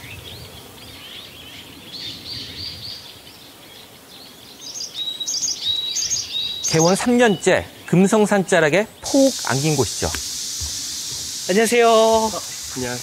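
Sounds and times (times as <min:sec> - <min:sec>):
bird song phrase: 0:00.0 - 0:13.0.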